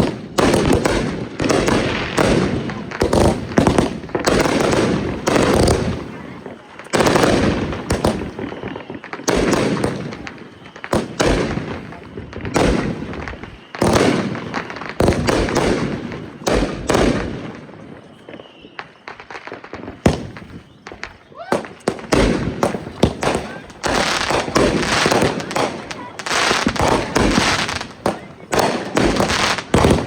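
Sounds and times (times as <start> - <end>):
fireworks bangs: 0.0 - 30.0
fireworks crackling: 0.0 - 30.0.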